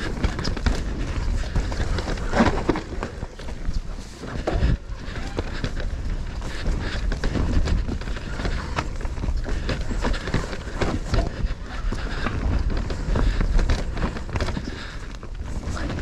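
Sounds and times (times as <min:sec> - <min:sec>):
bike clicks and rattles: 0:00.0 - 0:16.0.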